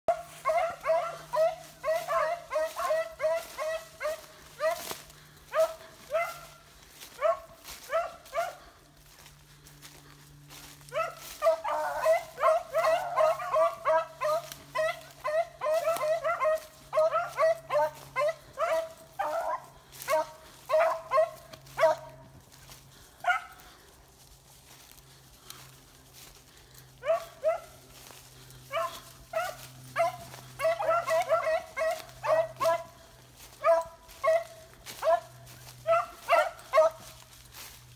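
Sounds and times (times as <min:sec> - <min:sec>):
dogs barking high-pitched: 0:00.1 - 0:08.9, 0:10.6 - 0:23.8, 0:26.8 - 0:37.7.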